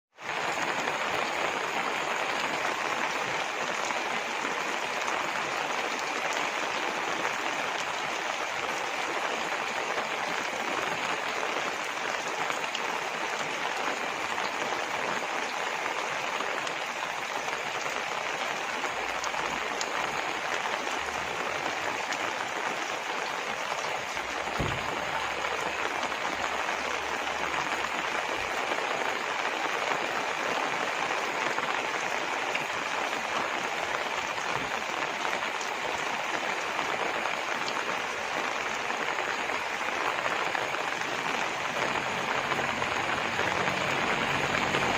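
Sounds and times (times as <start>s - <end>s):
steady rain falling: 0.1s - 44.9s.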